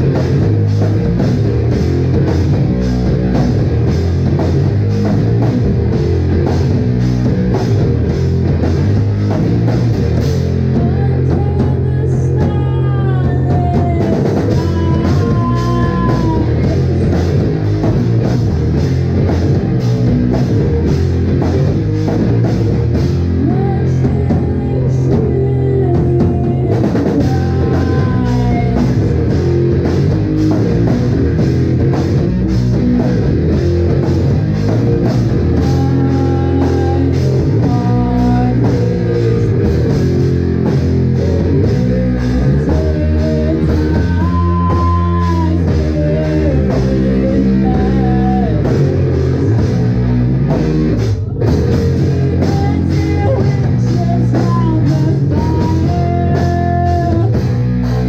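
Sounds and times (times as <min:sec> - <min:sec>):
bass: 0:00.0 - 0:58.0
drum kit: 0:00.0 - 0:58.0
electric guitar: 0:00.0 - 0:58.0.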